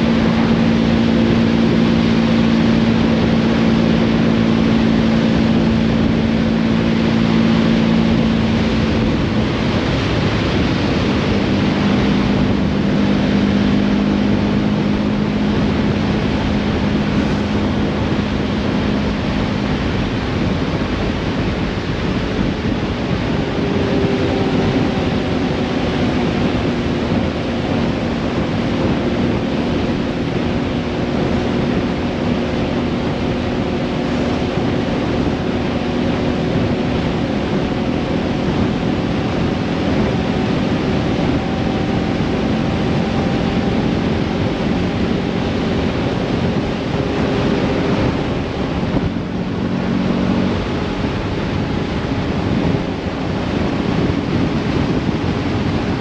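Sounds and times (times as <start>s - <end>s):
car engine hum: 0.0s - 56.0s
road and wind noise: 0.0s - 56.0s
wind buffeting microphone: 0.0s - 56.0s.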